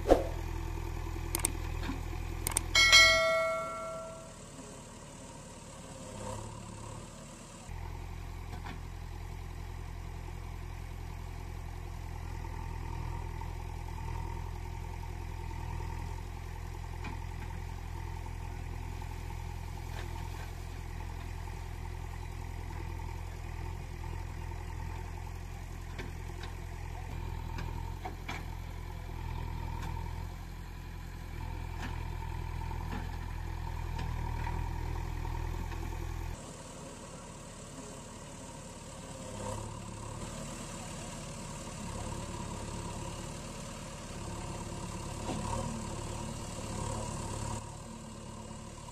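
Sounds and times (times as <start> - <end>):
heavy engine idling: 0.3 - 48.9.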